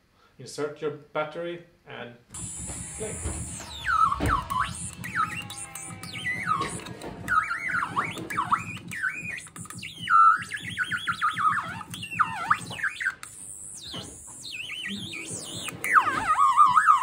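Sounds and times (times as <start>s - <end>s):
chirping electronic synthesizer tones: 2.3s - 17.0s.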